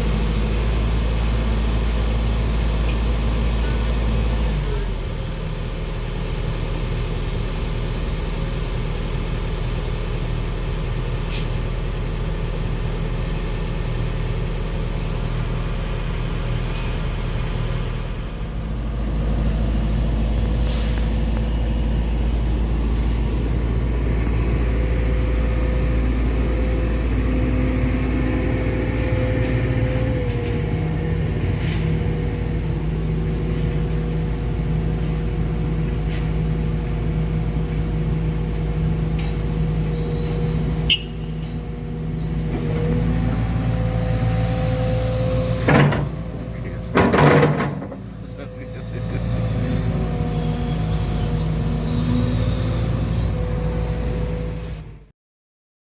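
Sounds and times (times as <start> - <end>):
excavator diesel engine running: 0.0 - 55.1.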